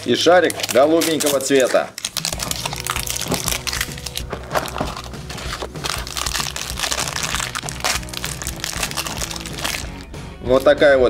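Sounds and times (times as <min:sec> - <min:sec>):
foil packet crinkling: 0:00.0 - 0:10.1
plastic ball cracking open: 0:00.0 - 0:10.1
background music: 0:00.0 - 0:11.0.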